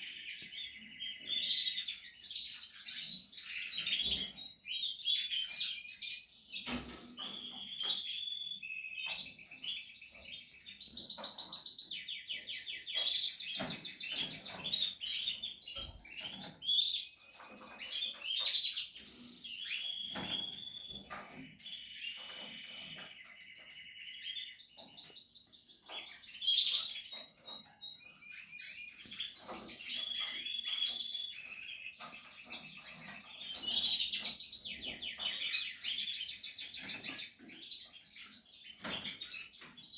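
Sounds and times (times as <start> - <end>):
canaries singing and trilling: 0.0 - 39.9.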